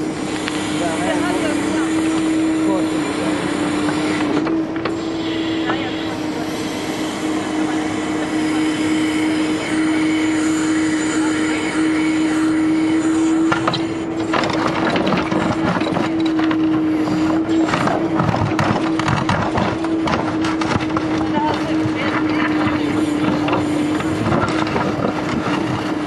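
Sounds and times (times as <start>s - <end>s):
excavator engine whining: 0.0s - 26.0s.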